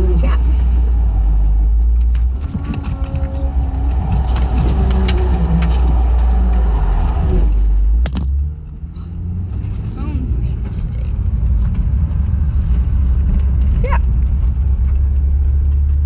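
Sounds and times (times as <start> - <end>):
car cabin low rumble: 0.0 - 16.0.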